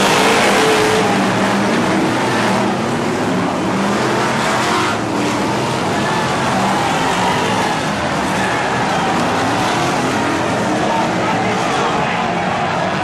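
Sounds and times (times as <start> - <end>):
racing car engines: 0.0 - 13.0.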